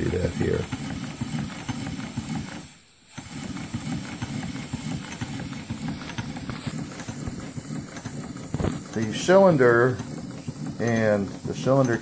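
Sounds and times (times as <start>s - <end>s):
model steam engine clattering: 0.0s - 12.0s
steam exhaust chuffs: 0.0s - 12.0s.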